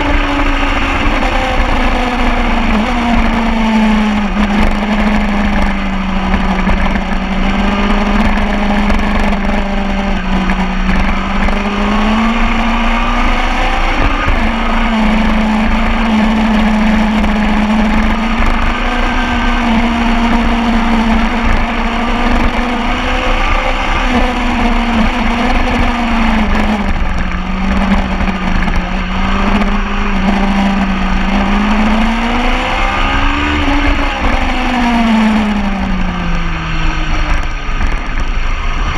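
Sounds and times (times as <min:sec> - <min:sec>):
motorcycle engine revving hard: 0:00.0 - 0:38.9
steady rushing noise: 0:00.0 - 0:38.9.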